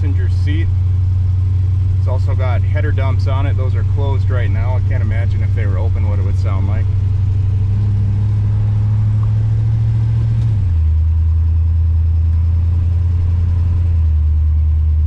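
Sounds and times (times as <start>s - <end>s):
car exhaust drone: 0.0s - 15.0s.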